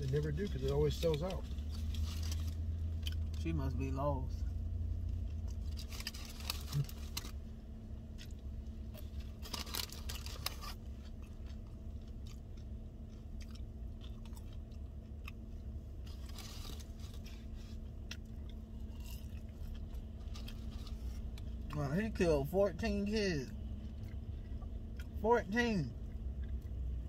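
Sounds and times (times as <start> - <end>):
person chewing crunchy food: 0.1 - 3.4, 4.9 - 21.8, 23.4 - 25.2, 25.9 - 27.0.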